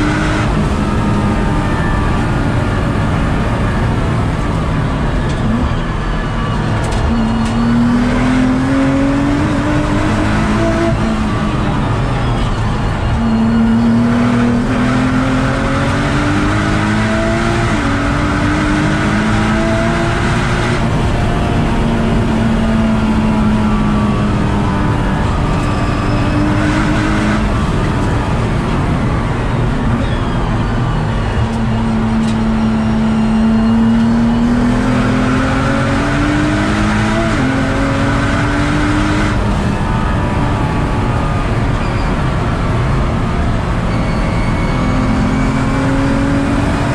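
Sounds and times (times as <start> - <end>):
car engine accelerating: 0.0 - 46.9
road and wind noise: 0.0 - 46.9.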